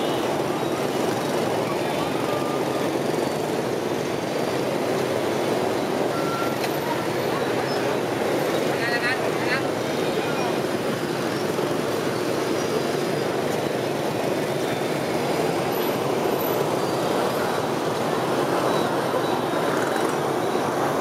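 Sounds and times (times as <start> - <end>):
motorbike and scooter traffic drone: 0.0 - 21.0.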